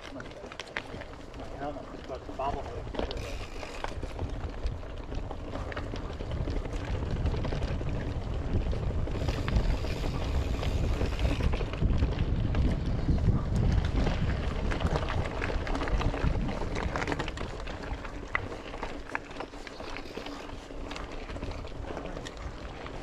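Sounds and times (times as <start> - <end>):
bike clicks and rattles: 0.0 - 23.0
tyres rumbling on dirt trail: 0.0 - 23.0
wind buffeting microphone: 0.0 - 23.0.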